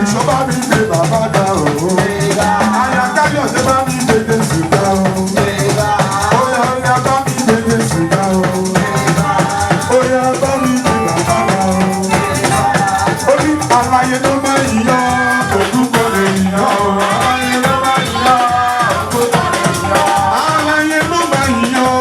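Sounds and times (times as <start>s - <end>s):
instrumental band music: 0.0s - 22.0s.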